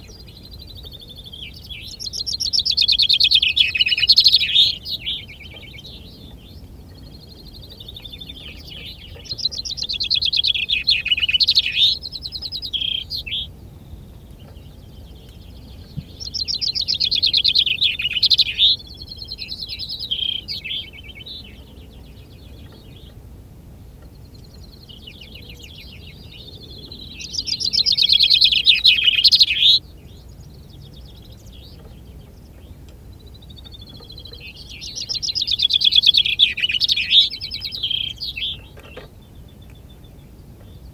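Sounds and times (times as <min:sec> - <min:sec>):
chaffinch singing: 0:00.0 - 0:40.9.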